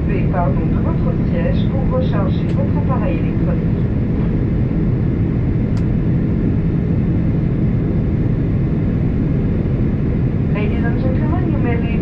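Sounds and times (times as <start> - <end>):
airliner cabin rumble in flight: 0.0 - 12.0.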